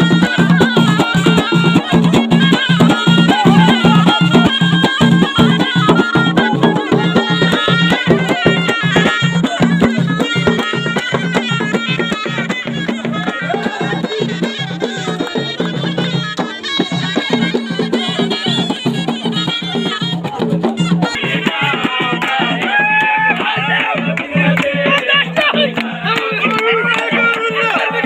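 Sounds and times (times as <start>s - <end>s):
double-reed shawm melody: 0.0s - 28.0s
drum beat: 0.0s - 28.0s.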